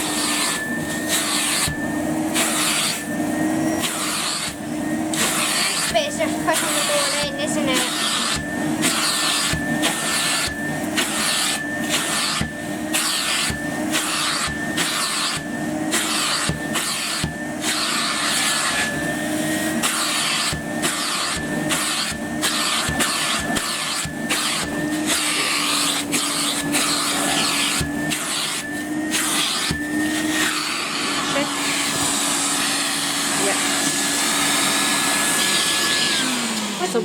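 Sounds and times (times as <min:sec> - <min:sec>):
vacuum cleaner motor whine: 0:00.0 - 0:37.0.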